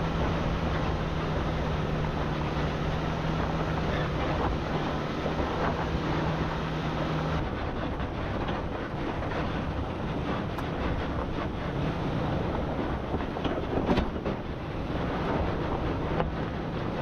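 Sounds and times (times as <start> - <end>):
vehicle engine: 0.0 - 17.0
wind buffeting microphone: 0.0 - 17.0.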